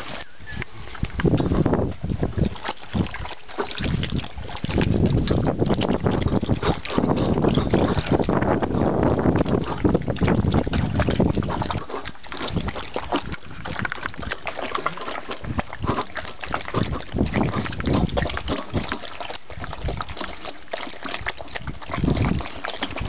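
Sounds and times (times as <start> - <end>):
puppies lapping water: 0.0 - 23.0.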